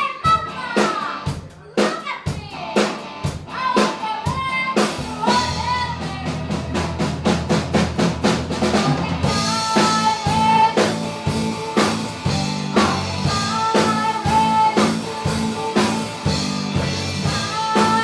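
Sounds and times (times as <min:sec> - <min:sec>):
drum kit beat: 0:00.0 - 0:18.0
live band music: 0:00.0 - 0:18.0.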